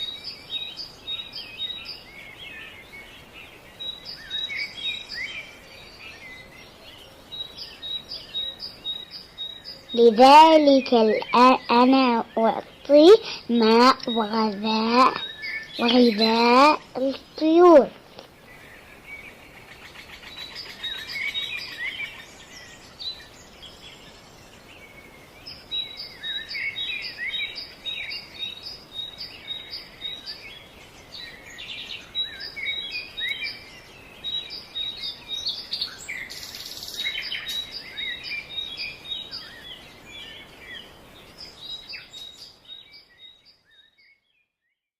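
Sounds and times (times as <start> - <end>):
small birds chirping: 0.0 - 44.7.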